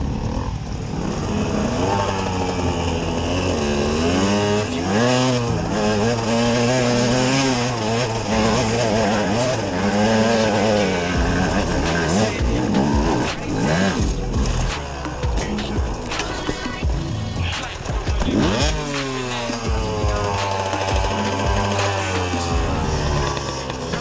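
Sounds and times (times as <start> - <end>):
motorcycle engine revving hard: 0.0 - 24.0.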